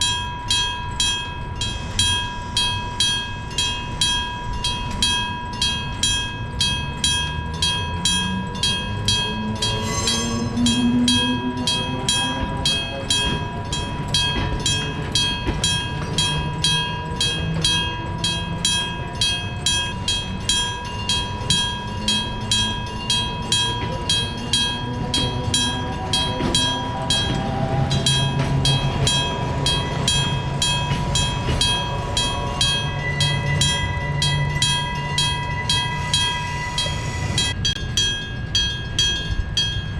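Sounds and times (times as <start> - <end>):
level crossing bell ringing: 0.0 - 39.9
train traction motor whine: 0.0 - 39.9.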